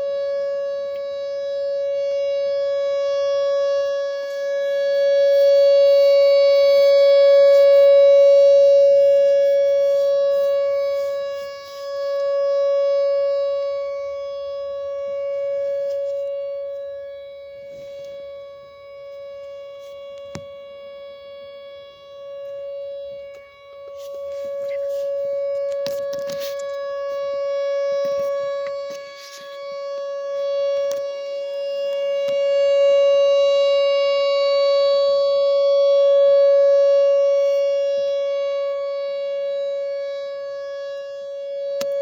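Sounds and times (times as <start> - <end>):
outdoor warning siren: 0.0 - 42.0.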